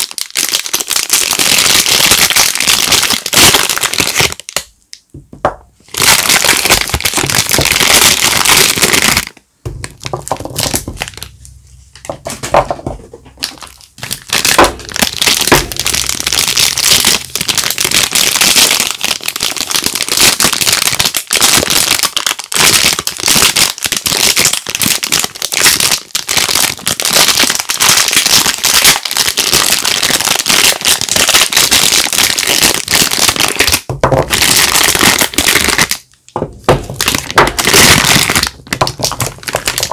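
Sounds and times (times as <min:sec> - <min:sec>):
soap wrappers crinkling: 0:00.0 - 0:05.1, 0:05.8 - 0:39.9.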